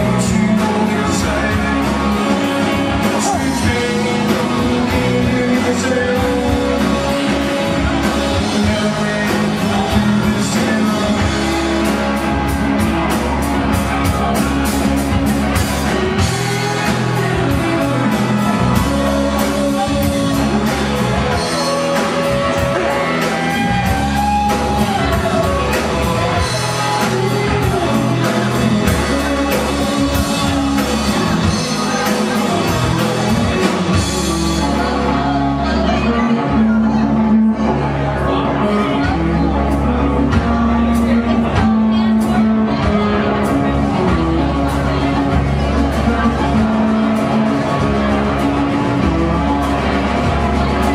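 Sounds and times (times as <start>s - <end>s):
man singing: 0.0s - 50.9s
rock band playing live: 0.0s - 50.9s.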